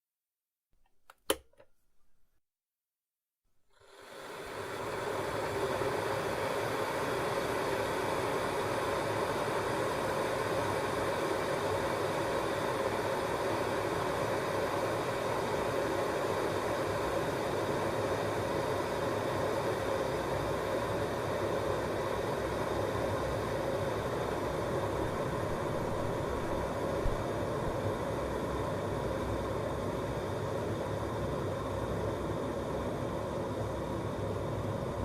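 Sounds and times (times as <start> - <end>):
electric kettle boiling: 1.1 - 1.7, 3.7 - 35.0.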